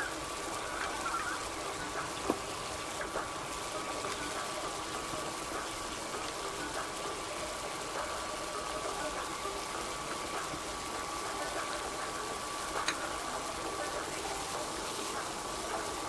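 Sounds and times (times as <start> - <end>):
faint steady whine: 0.0 - 16.0
food sizzling and bubbling in pan: 0.0 - 16.0.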